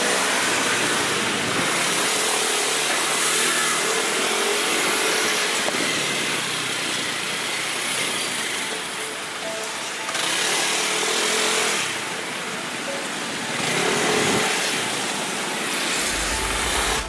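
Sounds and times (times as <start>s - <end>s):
scooter engine: 0.0s - 17.0s
surrounding traffic: 0.0s - 17.0s.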